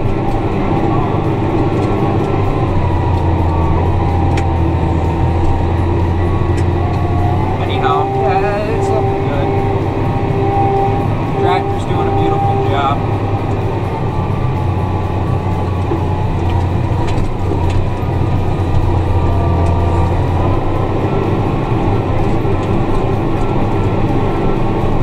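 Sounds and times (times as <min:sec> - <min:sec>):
tractor engine low drone: 0:00.0 - 0:25.0.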